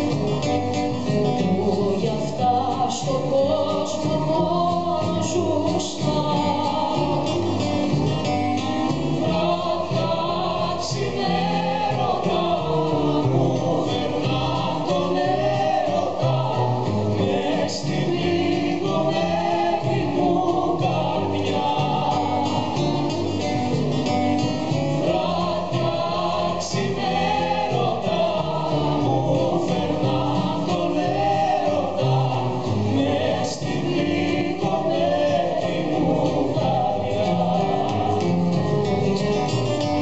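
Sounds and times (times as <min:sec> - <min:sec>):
person singing with instruments: 0:00.0 - 0:40.0.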